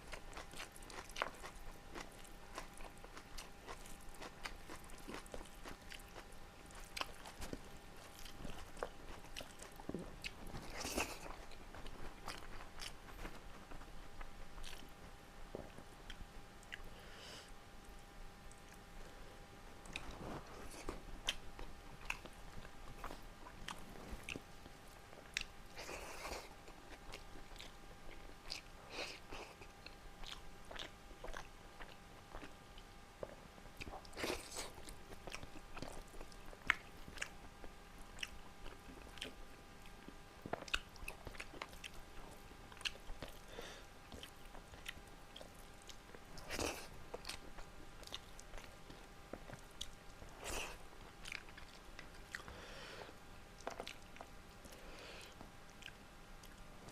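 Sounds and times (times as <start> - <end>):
person chewing and biting food: 0.0 - 16.9, 19.8 - 52.7, 53.6 - 56.6
faint steady hum: 0.0 - 56.9.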